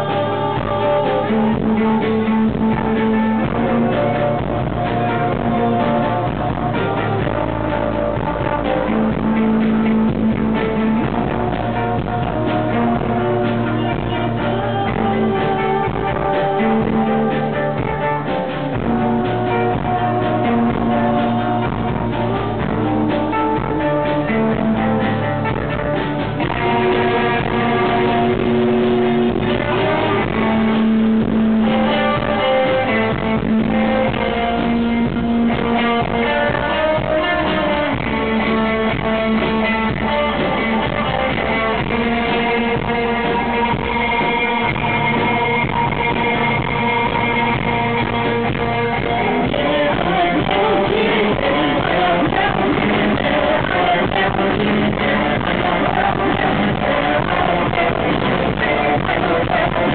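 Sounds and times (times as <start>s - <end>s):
guitar: 0.0s - 59.9s
live band playing: 0.0s - 59.9s.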